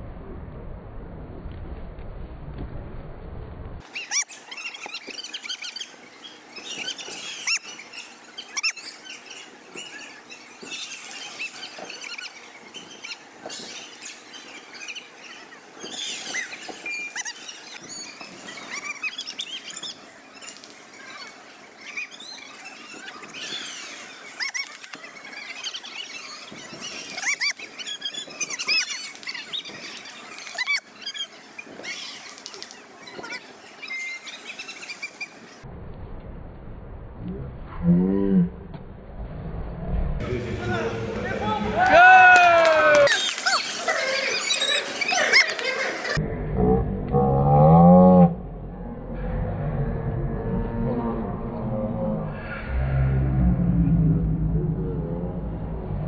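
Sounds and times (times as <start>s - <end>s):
noisy arena background: 0.0s - 56.0s.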